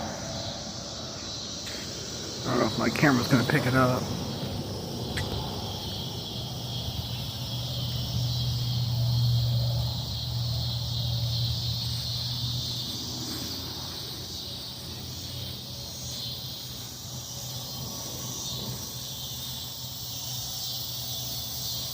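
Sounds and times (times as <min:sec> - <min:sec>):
cicadas buzzing: 0:00.0 - 0:21.9.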